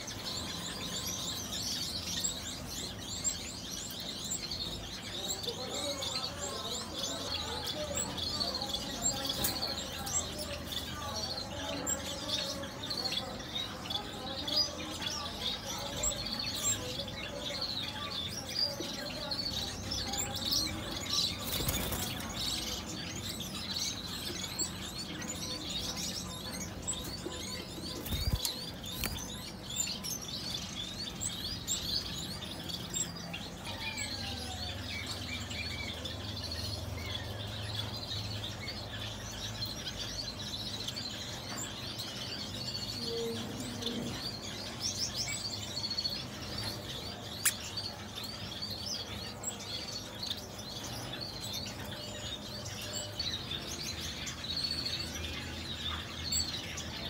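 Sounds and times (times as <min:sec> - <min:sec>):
cage birds chirping: 0:00.0 - 0:57.0.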